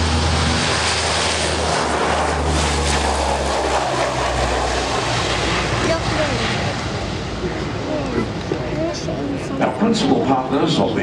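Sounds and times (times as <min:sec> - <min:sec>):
rush of engine and air noise: 0:00.0 - 0:11.0
turboprop aircraft propeller hum: 0:00.0 - 0:11.0.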